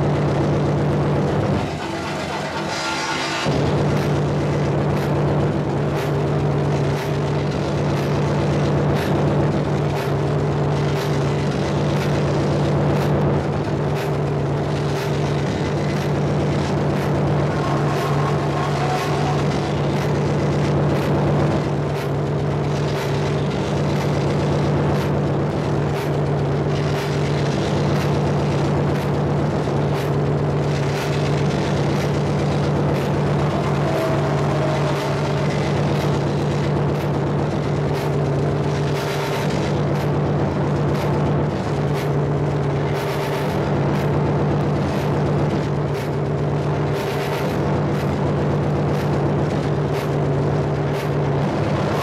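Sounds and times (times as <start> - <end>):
distorted noise wall: 0.0 - 52.0
low drone: 0.0 - 52.0
high electronic pulse: 1.5 - 46.2.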